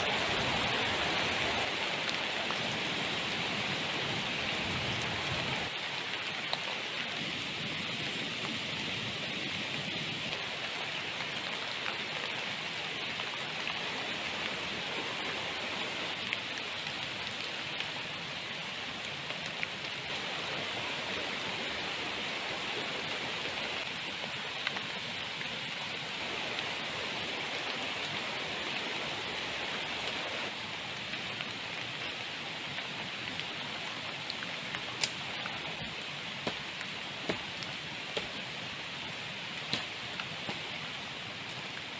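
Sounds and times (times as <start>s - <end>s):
heavy rain hissing: 0.0s - 41.9s.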